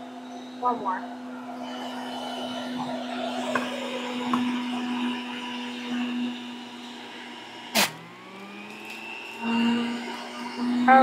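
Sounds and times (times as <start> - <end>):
juicer motor running: 0.0 - 11.0.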